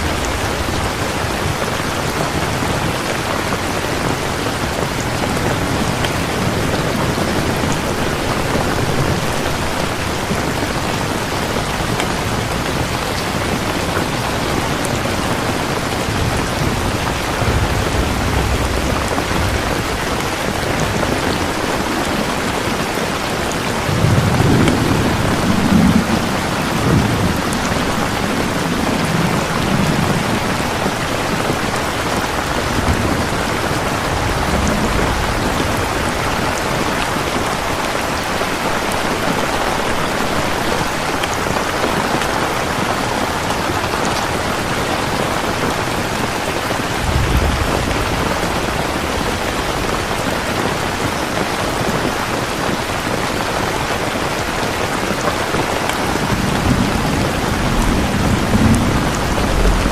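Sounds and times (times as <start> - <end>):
heavy rain falling: 0.0 - 59.9
thunder rumbling: 0.0 - 59.9.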